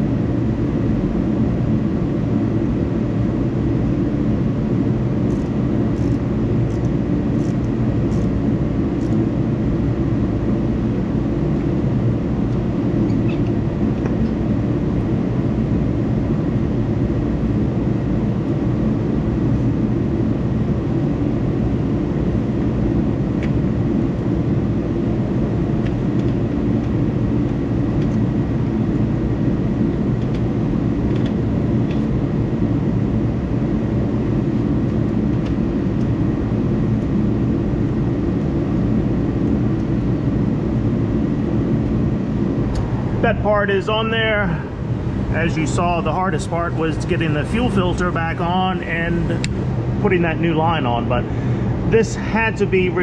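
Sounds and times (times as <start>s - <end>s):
loud mechanical drone: 0.0s - 53.0s.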